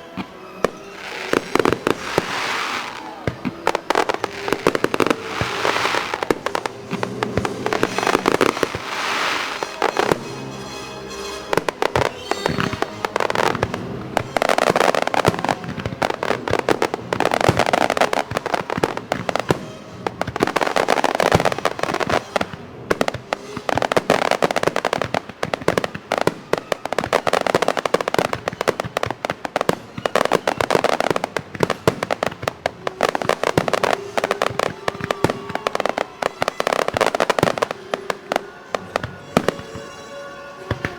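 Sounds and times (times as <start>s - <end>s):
fireworks bursting and crackling: 0.0s - 40.9s
music playing: 0.0s - 40.9s.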